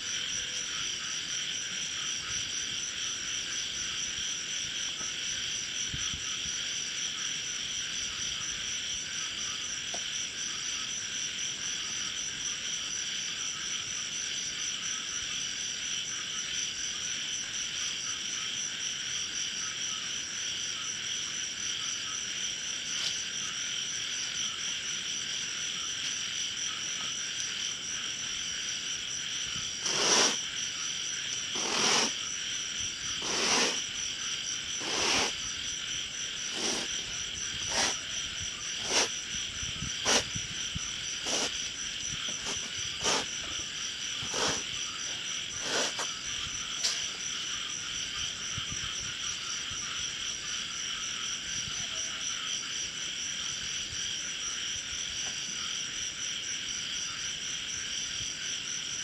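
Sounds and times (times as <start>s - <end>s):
insects and frogs chorus: 0.0s - 59.0s.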